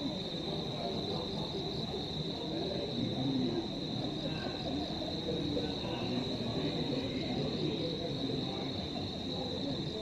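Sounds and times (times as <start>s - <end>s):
low background murmur: 0.0s - 10.0s.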